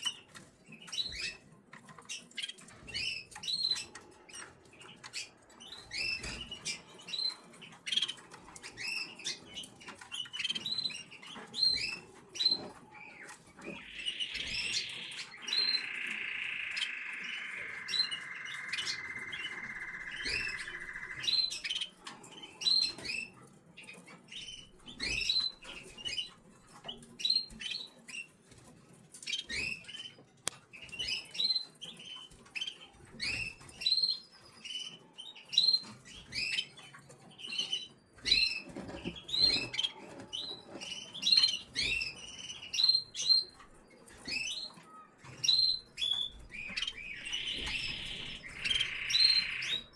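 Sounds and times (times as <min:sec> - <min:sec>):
chicks cheeping: 0:00.0 - 0:49.9.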